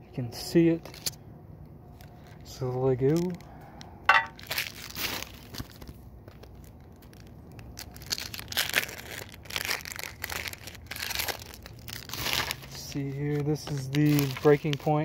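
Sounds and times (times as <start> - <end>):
foil wrapper crinkling and tearing: 1.9 - 15.0.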